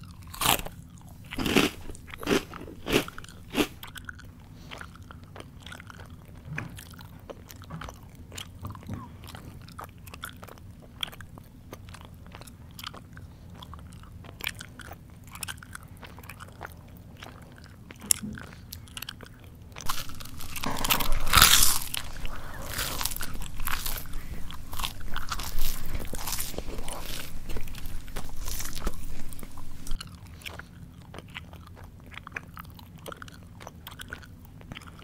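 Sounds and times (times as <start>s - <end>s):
crunching crisp food: 0.0s - 35.0s.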